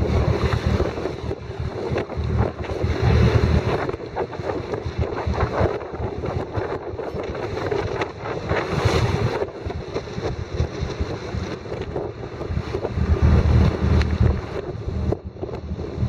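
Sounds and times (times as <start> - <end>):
choppy water against hull: 0.0 - 16.0
wind buffeting microphone: 0.0 - 16.0.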